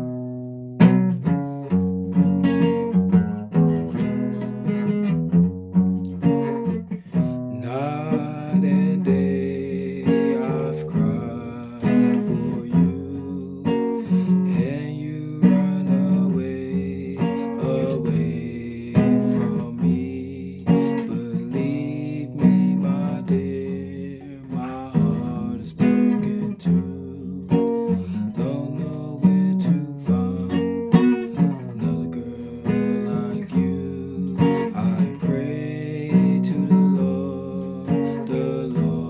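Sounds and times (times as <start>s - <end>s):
guitar chords: 0.0s - 39.0s.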